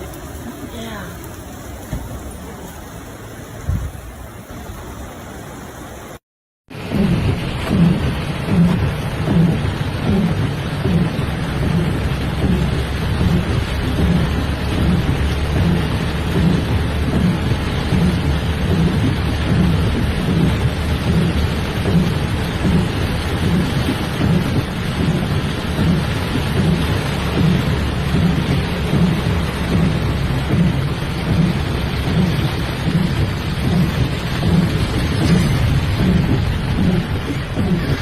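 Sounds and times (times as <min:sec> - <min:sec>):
fast floodwater rushing: 0:00.0 - 0:38.0
heavy rain: 0:00.0 - 0:38.0
deep pulsing rumble: 0:06.7 - 0:38.0.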